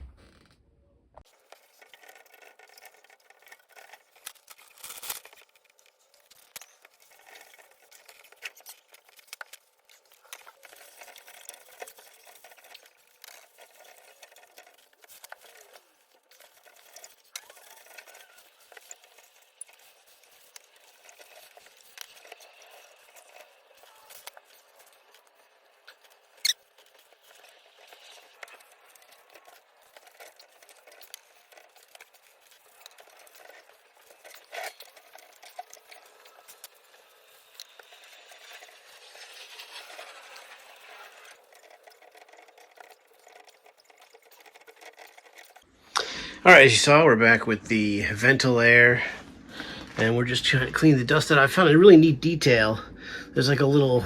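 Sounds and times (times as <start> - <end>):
hands scratching and rubbing fan: 1.3 - 45.7.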